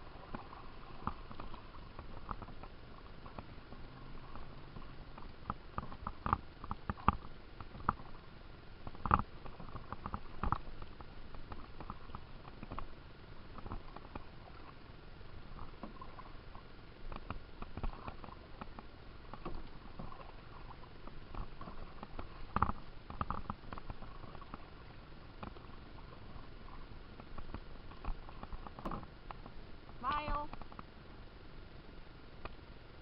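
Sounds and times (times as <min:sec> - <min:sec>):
paddle dipping and splashing: 0:00.0 - 0:30.0.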